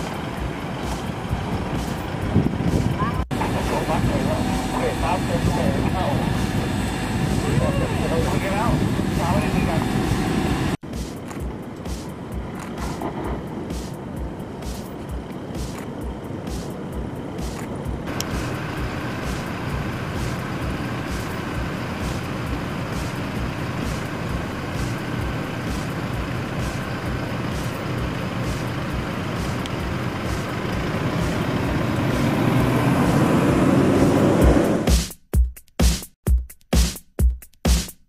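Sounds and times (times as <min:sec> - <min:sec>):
vehicles driving over gravel: 0:00.0 - 0:34.9
background music with steady beat: 0:00.0 - 0:38.0.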